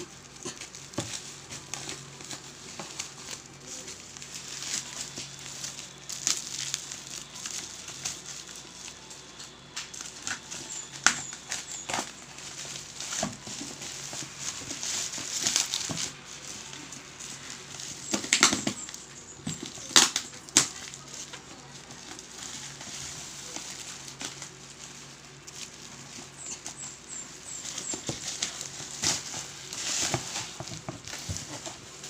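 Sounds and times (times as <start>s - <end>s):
bubble wrap cracks: 0.0s - 32.0s
bubble wrap rustling and crinkling: 0.0s - 32.0s.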